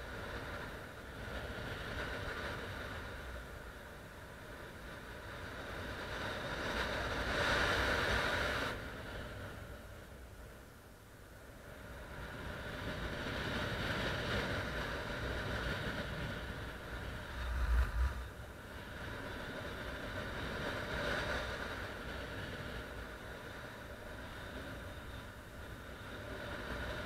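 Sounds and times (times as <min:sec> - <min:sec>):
wind rushing over microphone: 0:00.0 - 0:10.0, 0:11.6 - 0:27.0.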